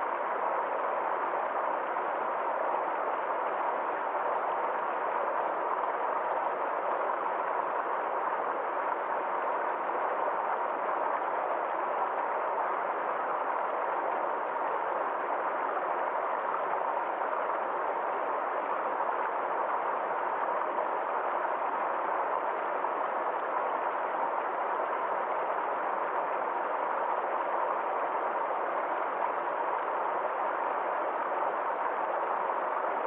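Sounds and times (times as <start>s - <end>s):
forest stream flowing: 0.0s - 33.0s.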